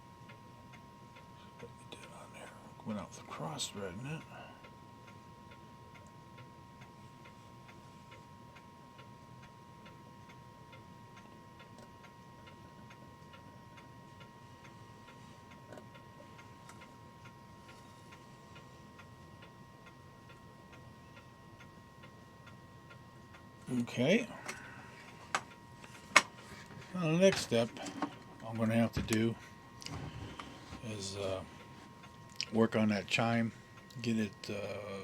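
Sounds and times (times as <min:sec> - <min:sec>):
faint steady whine: 0:00.0 - 0:35.0.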